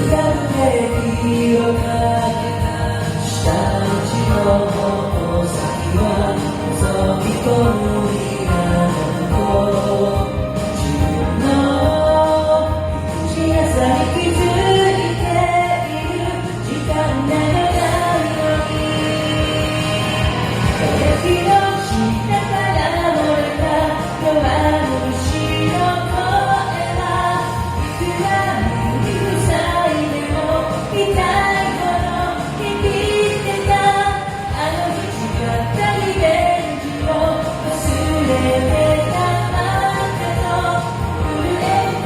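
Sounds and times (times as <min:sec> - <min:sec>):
pop song with lead vocals: 0:00.0 - 0:42.0.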